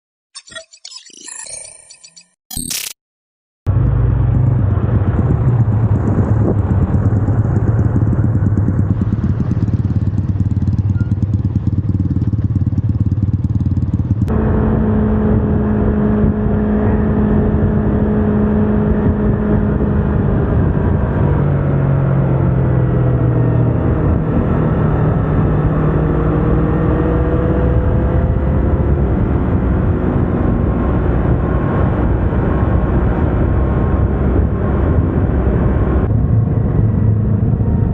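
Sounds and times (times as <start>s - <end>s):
motorcycle engine running: 3.7s - 37.9s.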